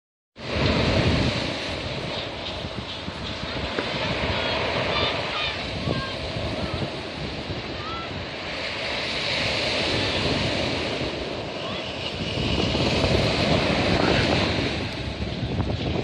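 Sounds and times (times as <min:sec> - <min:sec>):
waves washing in: 0:00.4 - 0:16.0
wind buffeting microphone: 0:00.4 - 0:16.0.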